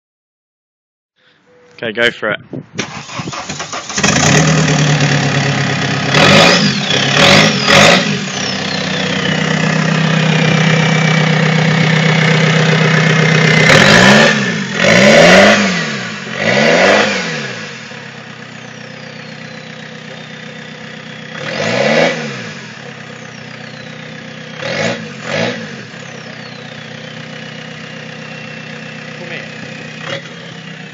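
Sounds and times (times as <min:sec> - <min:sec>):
diesel engine revving: 0:02.8 - 0:30.9.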